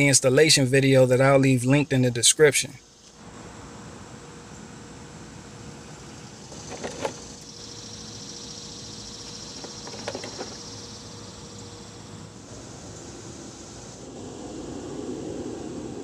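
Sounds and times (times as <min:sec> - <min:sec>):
steady high buzz: 0:00.0 - 0:16.0.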